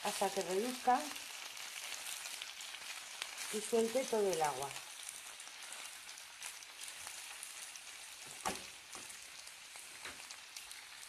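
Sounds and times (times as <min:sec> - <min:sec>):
lettuce sizzling in frying pan: 0:00.0 - 0:11.0.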